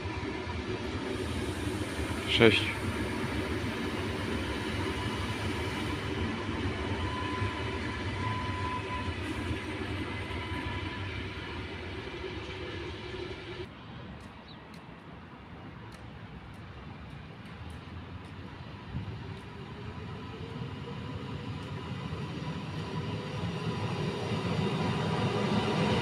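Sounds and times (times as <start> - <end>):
train rumbling past: 0.0 - 14.6, 15.2 - 26.0
steady rail whine: 0.0 - 26.0.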